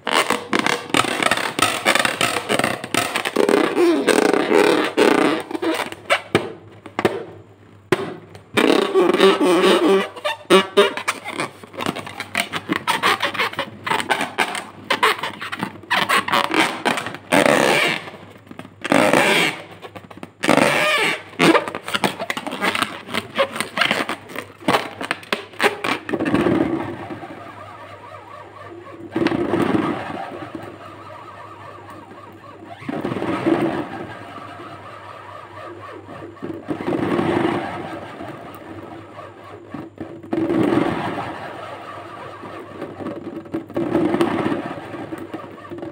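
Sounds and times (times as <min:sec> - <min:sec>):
balloon squeaking from rubbing: 0:00.0 - 0:45.9.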